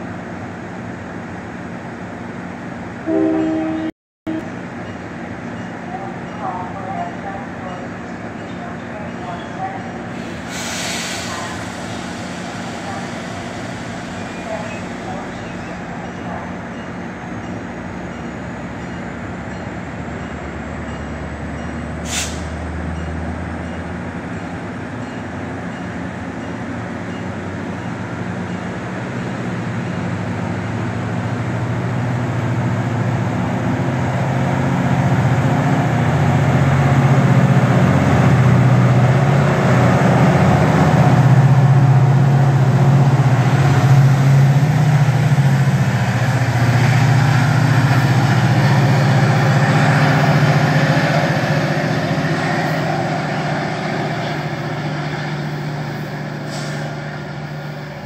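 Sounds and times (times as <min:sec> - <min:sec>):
diesel locomotive engine drone: 0:00.0 - 0:58.0
train wheels on rails: 0:07.7 - 0:58.0.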